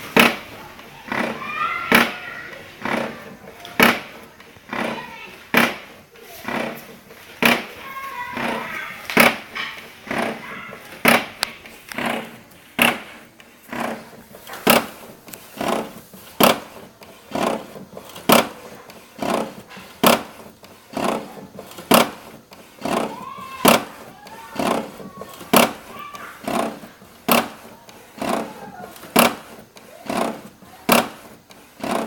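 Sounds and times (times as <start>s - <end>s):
printer mechanical clack: 0.0s - 32.0s
printer mechanism whirring: 0.0s - 32.0s.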